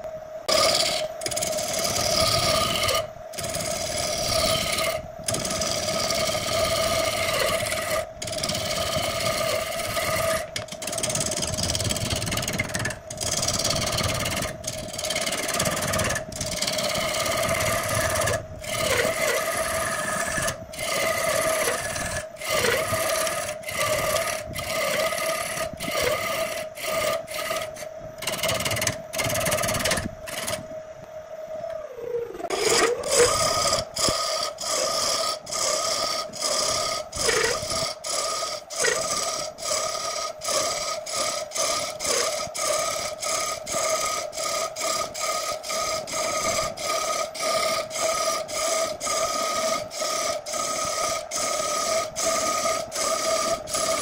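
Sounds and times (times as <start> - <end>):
turning tool rasping on wood: 0.5 - 30.6, 32.4 - 54.0
wood lathe humming: 0.5 - 30.6, 31.6 - 54.0.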